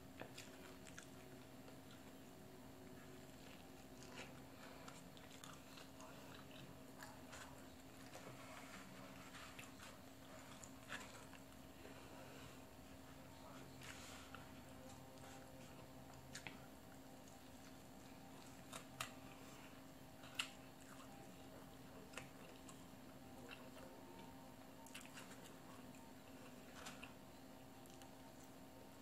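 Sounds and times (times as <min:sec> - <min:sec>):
close-up chewing: 0:00.0 - 0:29.0
steady low hum: 0:00.0 - 0:29.0.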